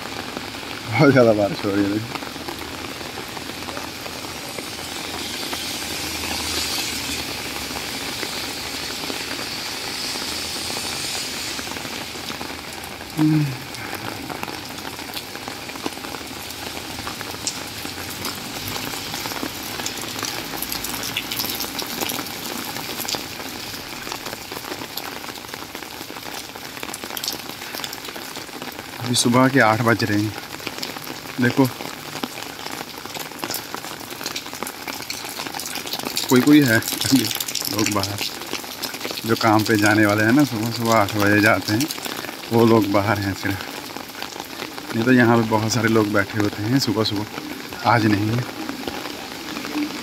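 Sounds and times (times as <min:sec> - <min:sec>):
heavy rain on street: 0:00.0 - 0:50.0
raindrops ticking on umbrella: 0:00.0 - 0:50.0.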